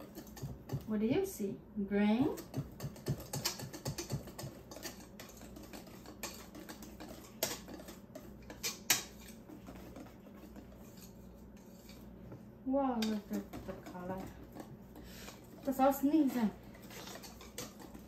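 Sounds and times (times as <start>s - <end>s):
utensil scraping mixing bowl: 0.0s - 1.0s, 2.2s - 18.0s.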